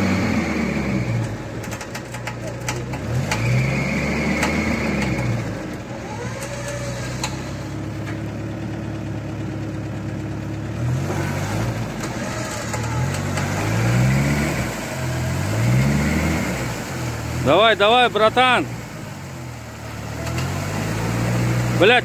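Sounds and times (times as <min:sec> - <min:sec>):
van engine revving: 0:00.0 - 0:22.0.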